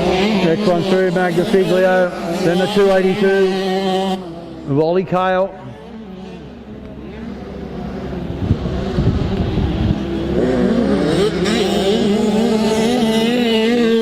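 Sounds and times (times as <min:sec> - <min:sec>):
motocross bikes revving past: 0:00.0 - 0:14.0.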